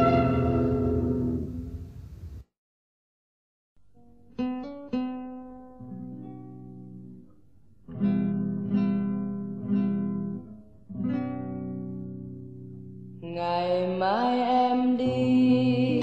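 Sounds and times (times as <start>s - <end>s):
acoustic guitar chords: 0.0s - 2.4s, 3.8s - 16.0s.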